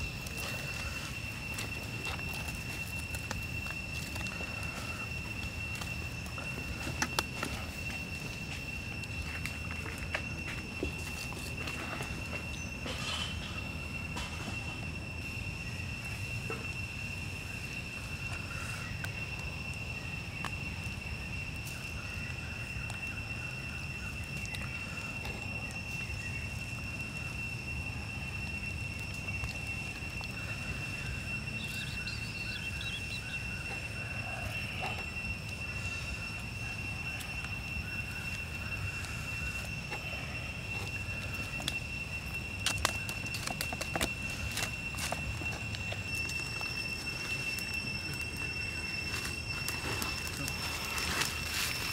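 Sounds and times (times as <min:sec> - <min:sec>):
high-pitched insect drone: 0:00.0 - 0:51.9
wood fire crackling: 0:00.0 - 0:51.9.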